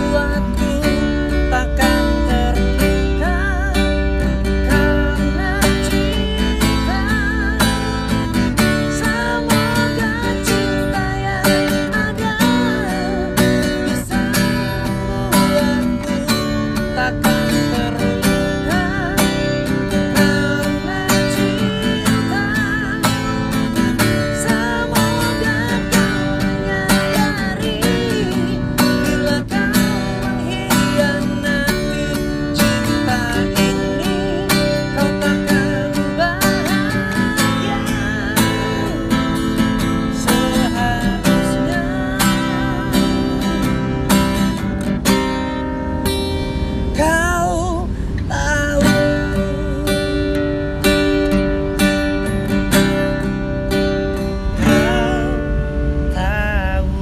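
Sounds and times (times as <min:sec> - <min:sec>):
man singing: 0:00.0 - 0:44.6, 0:47.0 - 0:51.4, 0:54.3 - 0:57.0
acoustic guitar strumming: 0:00.0 - 0:57.0.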